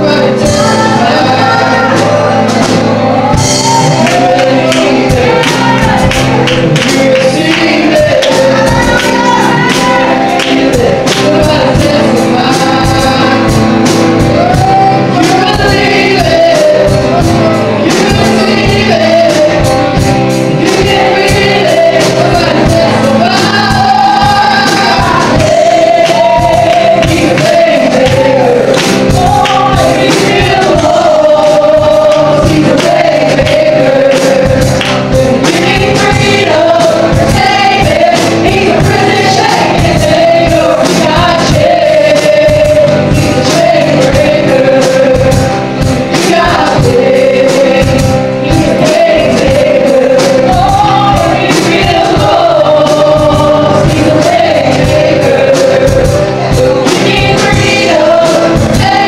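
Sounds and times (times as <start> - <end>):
acoustic guitar playing: 0.0 - 59.0
man singing: 0.0 - 59.0
steady beat: 0.0 - 59.0
women singing along: 0.0 - 59.0.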